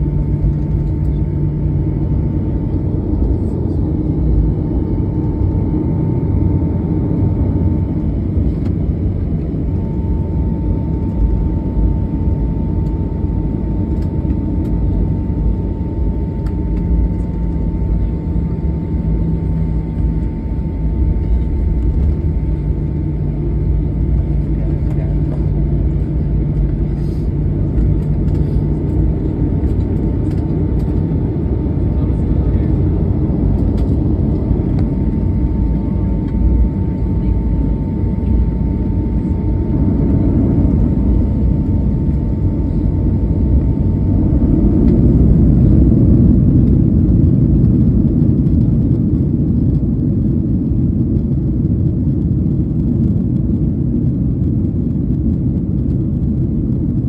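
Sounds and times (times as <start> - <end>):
jet engine and wheels rumbling: 0.0 - 57.0
thin steady whine: 0.0 - 57.0.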